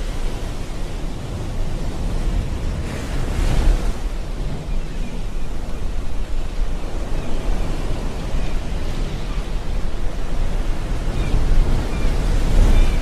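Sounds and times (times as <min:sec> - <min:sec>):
water washing around boat: 0:00.0 - 0:13.0
wind buffeting microphone: 0:00.0 - 0:13.0.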